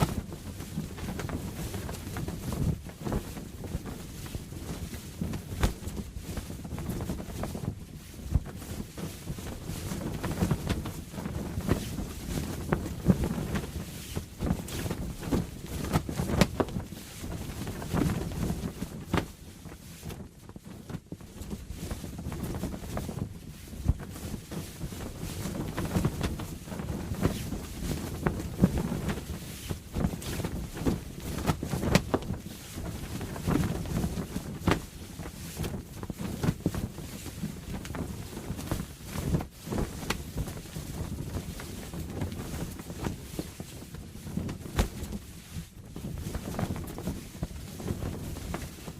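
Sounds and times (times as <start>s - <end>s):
sail flapping in wind: 0.0s - 48.9s.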